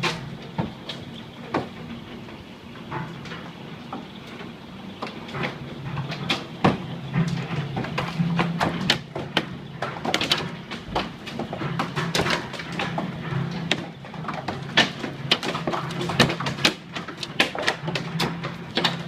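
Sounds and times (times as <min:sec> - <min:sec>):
hailstones pelting down: 0:00.0 - 0:19.0.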